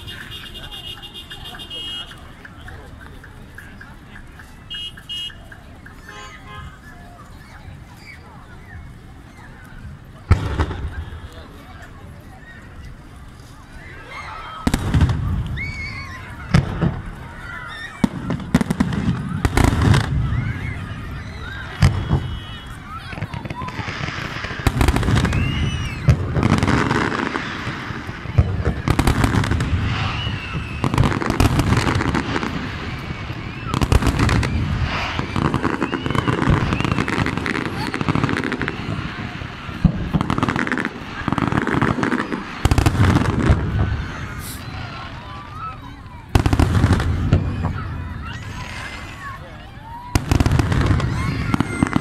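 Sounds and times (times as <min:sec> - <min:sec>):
fireworks whistling: 0:00.0 - 0:52.0.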